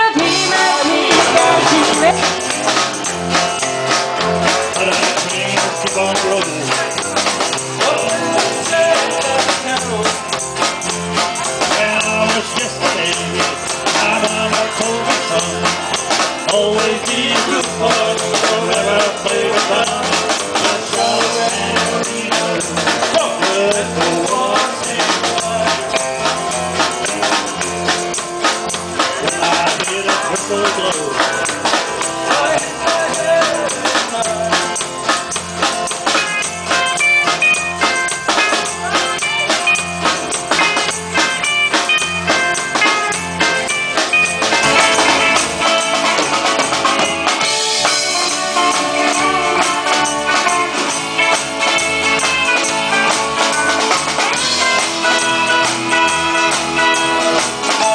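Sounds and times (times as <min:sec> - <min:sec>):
country rock band playing: 0:00.0 - 0:57.9
tambourine shaking: 0:00.3 - 0:57.9.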